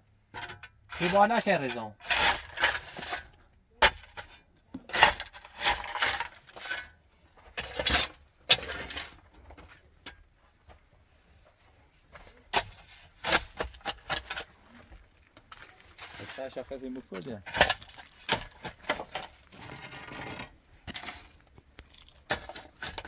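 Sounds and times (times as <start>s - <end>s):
hard objects clinking and scraping: 0.4s - 10.2s, 12.4s - 23.0s.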